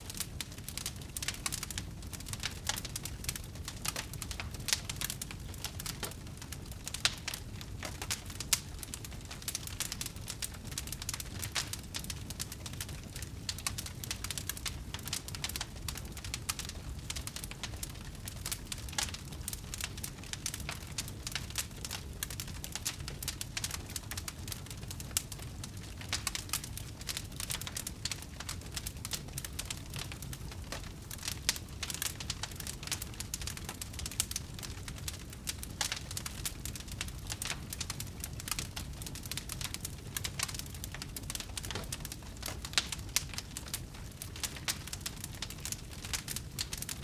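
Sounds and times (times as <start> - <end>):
logs crackling and popping: 0.0 - 47.0
low rumble of flames: 0.0 - 47.0.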